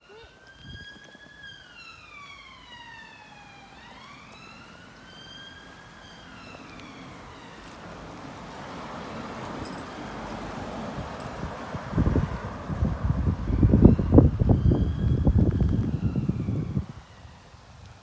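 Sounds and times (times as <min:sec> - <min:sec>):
police car siren wailing: 0:00.0 - 0:09.2, 0:12.1 - 0:17.8.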